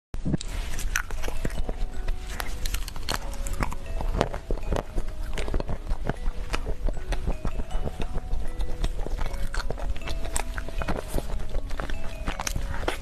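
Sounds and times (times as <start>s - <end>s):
lip smacks: 0.3s - 13.0s
chewing with wet mouth clicks: 0.4s - 13.0s.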